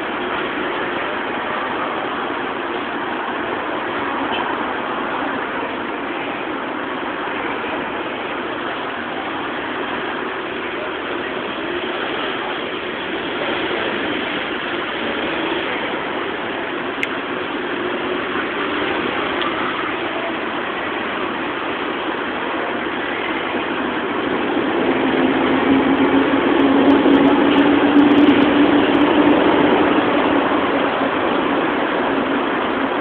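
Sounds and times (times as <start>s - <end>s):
engine and traffic noise: 0.0s - 33.0s.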